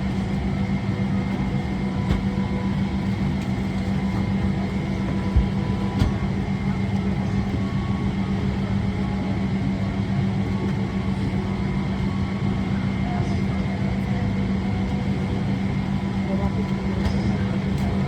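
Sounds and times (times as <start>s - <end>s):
aircraft cabin ventilation hum: 0.0s - 18.0s.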